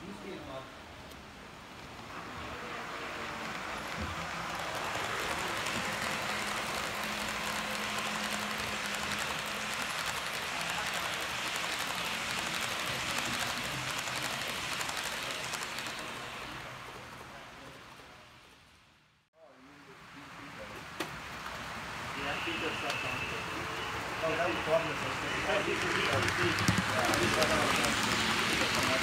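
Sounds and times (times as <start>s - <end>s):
model train wheels on rails: 1.1s - 18.9s, 20.4s - 29.0s.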